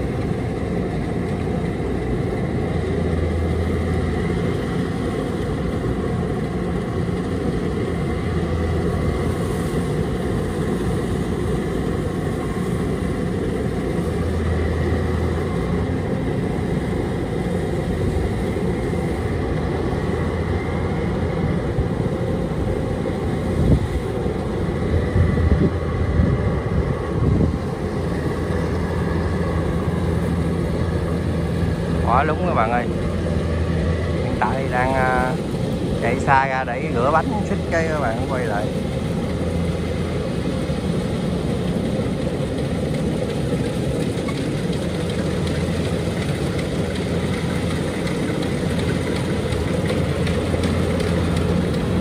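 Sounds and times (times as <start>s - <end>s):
combine harvester engine drone: 0.0s - 52.0s.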